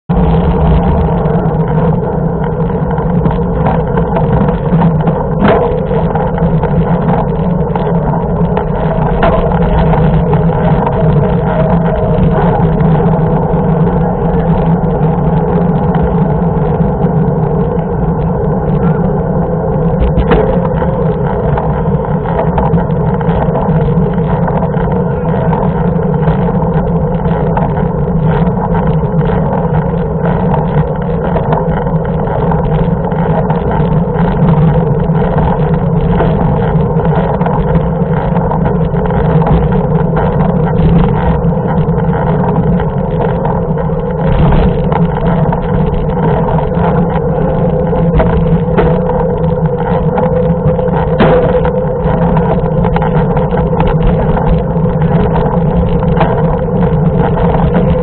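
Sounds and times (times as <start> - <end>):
wind rumble: 0.0 - 58.0
bike tyres humming on asphalt: 0.1 - 58.0.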